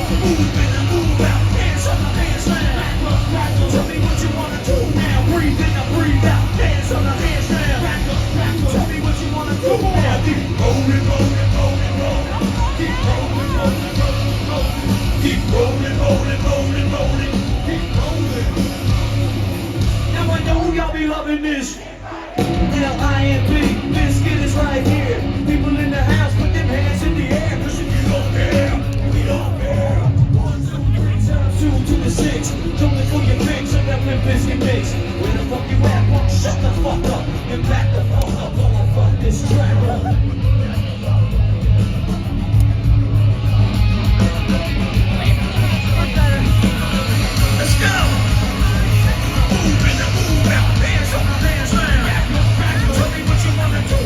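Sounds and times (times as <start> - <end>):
live metal band playing: 0.0 - 54.0
voices yelling: 0.0 - 54.0.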